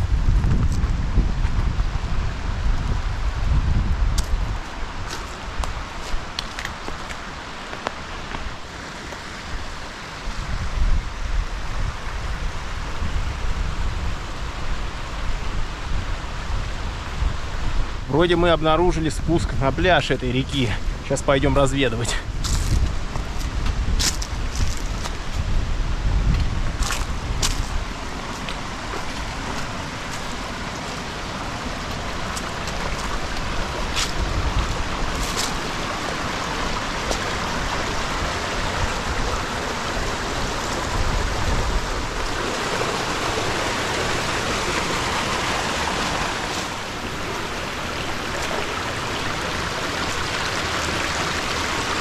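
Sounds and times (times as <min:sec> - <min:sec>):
river rushing: 0:00.9 - 0:52.0.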